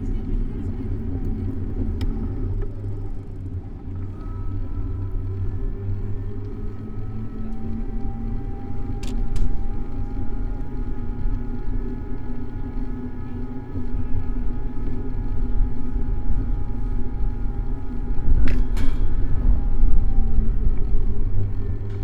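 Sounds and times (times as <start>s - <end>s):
faint steady hum: 0.0s - 22.0s
road and wind noise: 0.0s - 22.0s.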